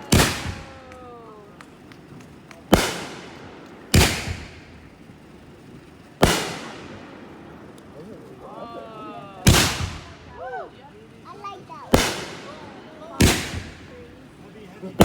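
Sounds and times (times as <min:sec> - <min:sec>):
fireworks bangs: 0:00.0 - 0:08.4, 0:09.3 - 0:15.0.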